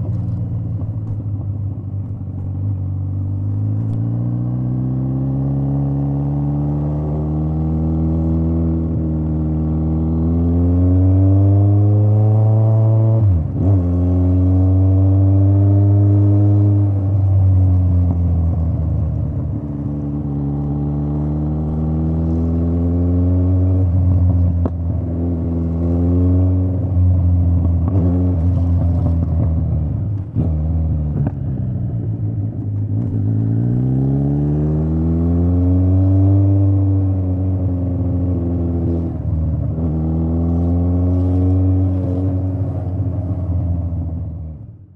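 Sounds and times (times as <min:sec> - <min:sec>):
motorcycle engine revving: 0:02.8 - 0:44.6.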